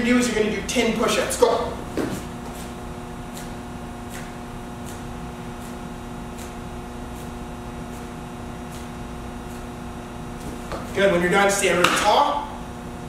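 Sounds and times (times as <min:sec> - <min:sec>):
low room hum with tones: 0:00.0 - 0:13.0.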